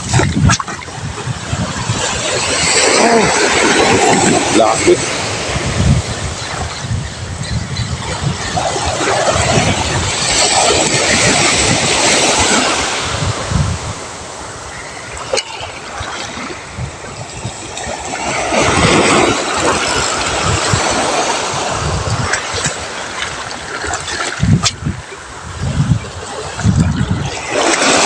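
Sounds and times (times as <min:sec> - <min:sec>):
sea surf washing on shore: 0:00.0 - 0:28.0
wind buffeting microphone: 0:00.0 - 0:28.0.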